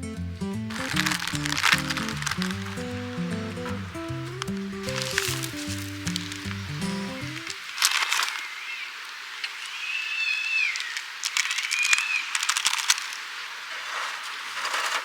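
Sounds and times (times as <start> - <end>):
charcoal fire crackling: 0.6 - 15.0
bird calling: 0.7 - 14.4.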